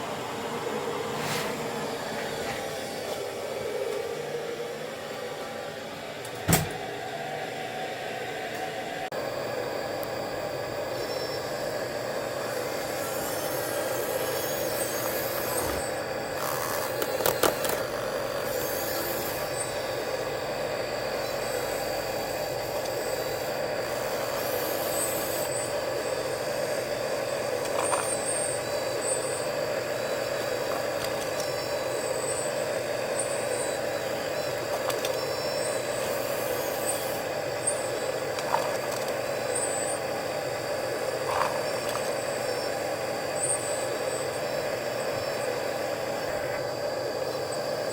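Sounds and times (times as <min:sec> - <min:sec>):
excavator mechanical drone: 0:00.0 - 0:47.9.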